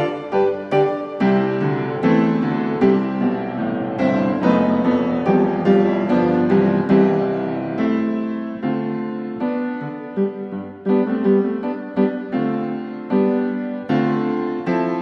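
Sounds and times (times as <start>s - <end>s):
piano notes and chords: 0.0s - 15.0s.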